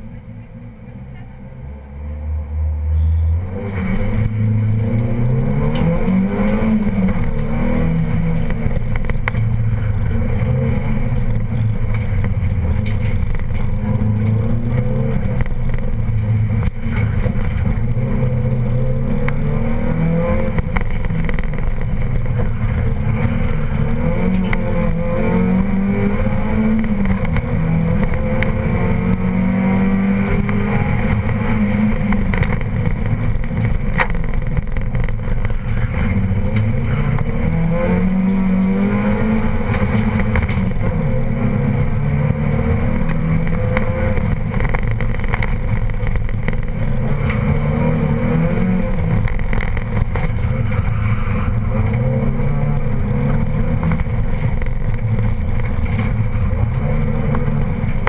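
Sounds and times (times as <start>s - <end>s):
rally car engine revving: 0.0s - 58.0s
road and tyre noise: 0.0s - 58.0s.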